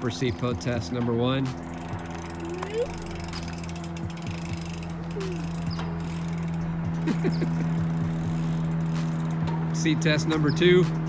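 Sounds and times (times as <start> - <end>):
bike freehub ticking: 0.0 - 11.0.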